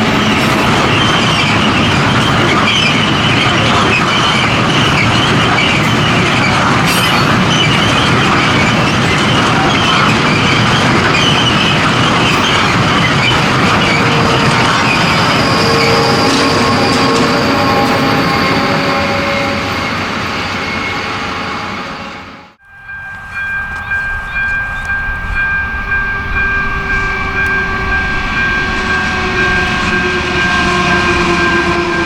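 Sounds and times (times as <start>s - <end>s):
freight train rolling past: 0.0s - 32.0s
high wheel squeal: 0.0s - 32.0s.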